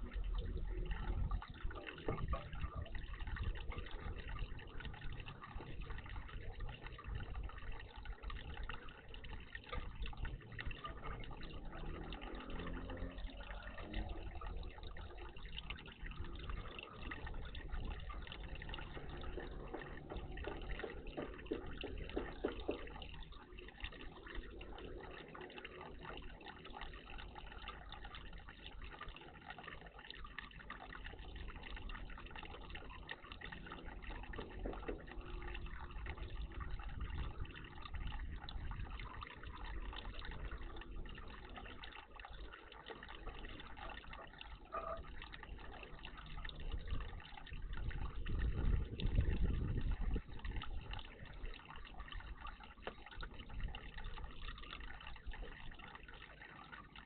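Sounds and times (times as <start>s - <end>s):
water splashing in bird bath: 0.0s - 57.0s.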